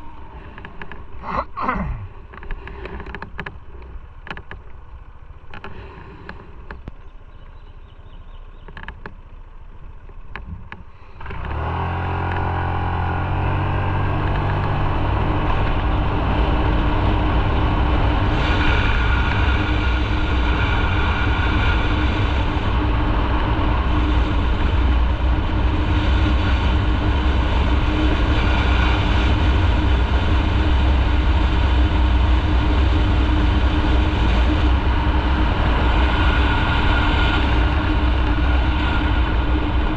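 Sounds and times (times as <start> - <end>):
wind and road noise: 0.0 - 39.9
motorcycle engine pulling away: 3.6 - 39.9.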